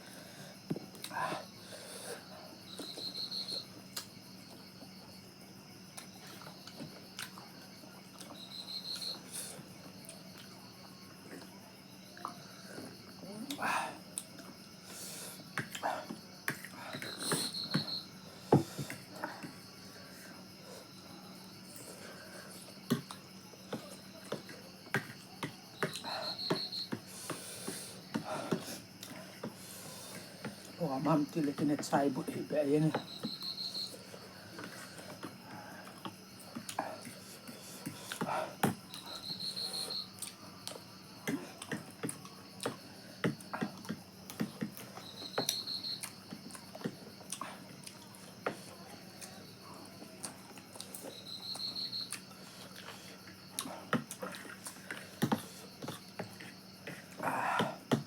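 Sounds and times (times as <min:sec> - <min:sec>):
cricket chirping: 0:00.0 - 0:58.0
people eating: 0:05.9 - 0:58.0.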